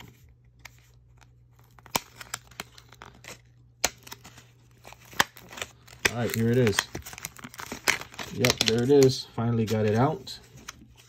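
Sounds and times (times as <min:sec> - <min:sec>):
blister pack crackling: 0:01.1 - 0:10.8.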